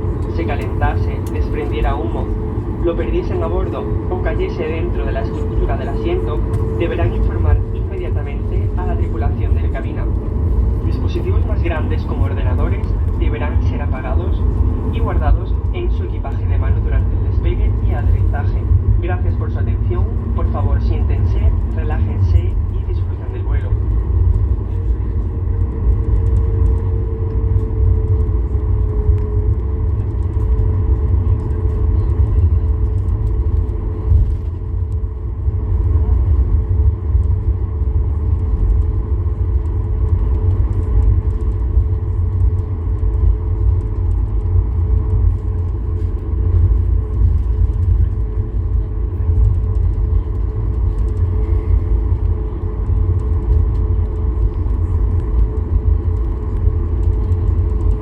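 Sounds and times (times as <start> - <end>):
low cabin rumble: 0.0 - 58.0
steady engine hum: 0.0 - 58.0.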